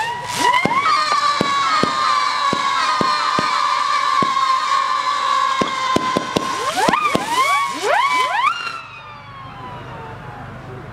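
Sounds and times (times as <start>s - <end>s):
firework cracks: 0.0s - 9.2s
firework whistling: 0.0s - 10.4s.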